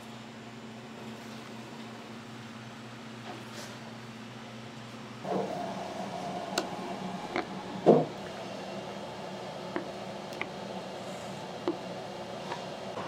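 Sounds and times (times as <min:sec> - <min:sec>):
fan-like hum: 0:00.0 - 0:13.0
restaurant room noise: 0:00.9 - 0:13.0.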